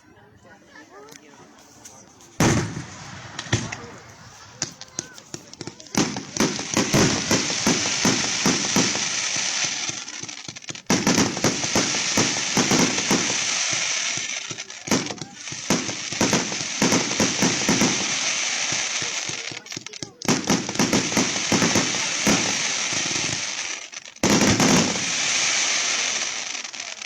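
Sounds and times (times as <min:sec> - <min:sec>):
fireworks crackling and popping: 0:01.1 - 0:27.0
steady hiss: 0:01.8 - 0:27.0.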